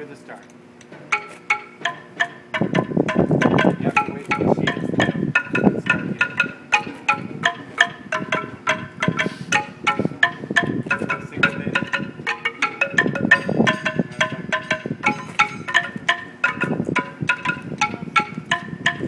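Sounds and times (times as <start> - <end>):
wooden xylophone notes: 1.0 - 19.0.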